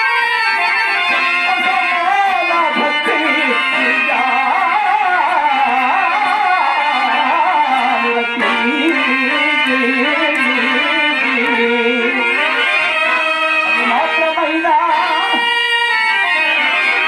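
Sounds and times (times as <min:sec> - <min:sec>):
harmonium accompaniment: 0:00.0 - 0:17.0
person singing ornamented melody: 0:00.0 - 0:17.0.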